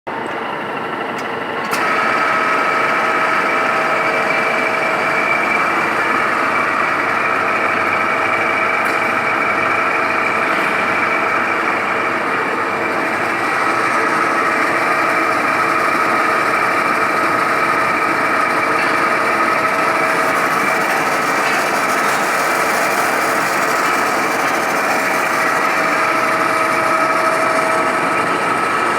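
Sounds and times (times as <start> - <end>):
milling machine whining: 0.1 - 28.9.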